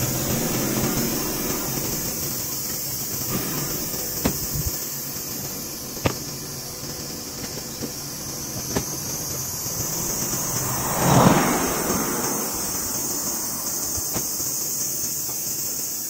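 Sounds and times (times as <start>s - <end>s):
steady mechanical running noise: 0.0s - 16.0s.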